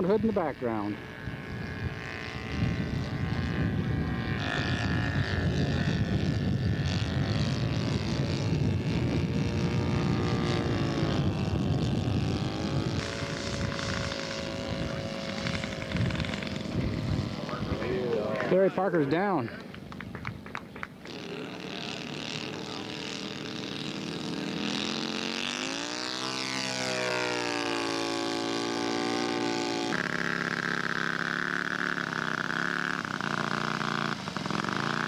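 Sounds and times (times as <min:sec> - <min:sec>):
model airplane propeller engine running: 0:00.0 - 0:35.0.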